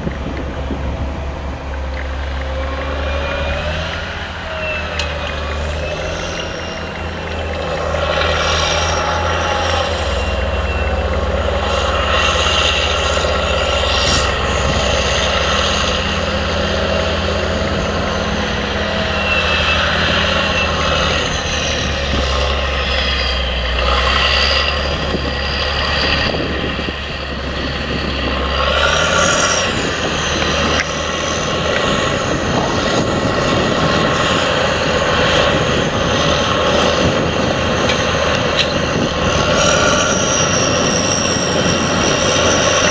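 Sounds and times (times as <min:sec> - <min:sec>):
tractor diesel engine drone: 0:00.0 - 0:42.9.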